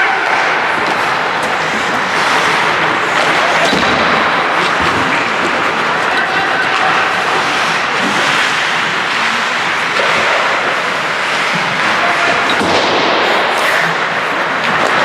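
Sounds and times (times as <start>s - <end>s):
ice rink noise: 0.0s - 15.0s.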